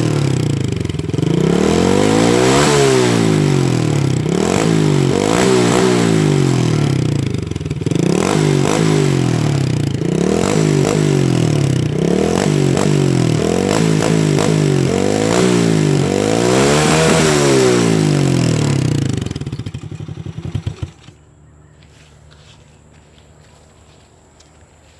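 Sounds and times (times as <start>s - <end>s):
engine revving up and down: 0.0s - 21.2s.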